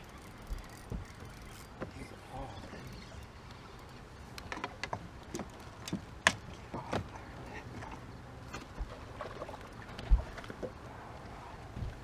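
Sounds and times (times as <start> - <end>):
fishing handling clicks and knocks: 0.0 - 10.8.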